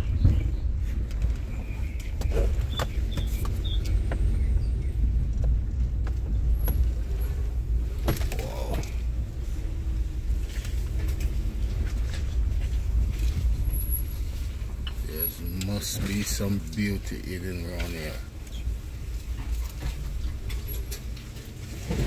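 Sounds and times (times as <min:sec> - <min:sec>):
car bumping over ruts: 0:00.0 - 0:22.0
car engine and tyres rumbling: 0:00.0 - 0:22.0.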